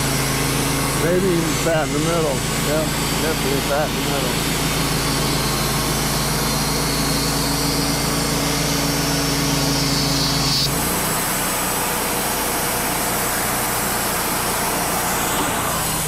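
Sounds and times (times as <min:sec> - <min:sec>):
band saw blade whine: 0:00.0 - 0:16.0
sawmill engine running: 0:00.0 - 0:16.0.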